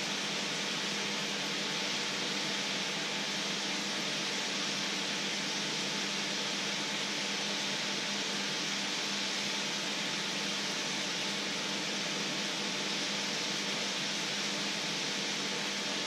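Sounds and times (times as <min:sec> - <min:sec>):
fat sizzling in a wok: 0:00.0 - 0:16.0.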